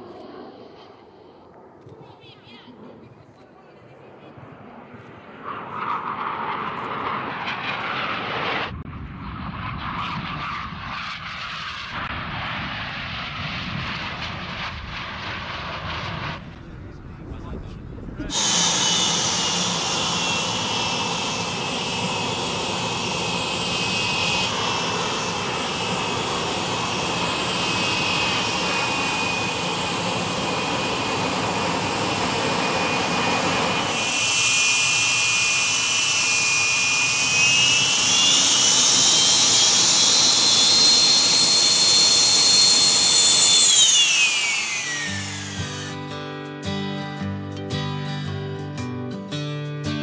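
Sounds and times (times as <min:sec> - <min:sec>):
jet engine whine: 0:00.0 - 0:46.6.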